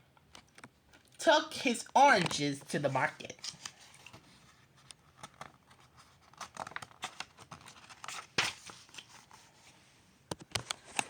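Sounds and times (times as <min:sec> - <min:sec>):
paper pages rustling: 0:02.1 - 0:11.0.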